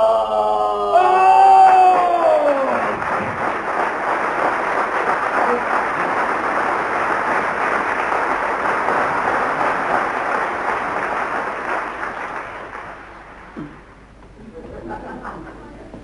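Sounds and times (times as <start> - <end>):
audience applauding: 1.0 - 13.9.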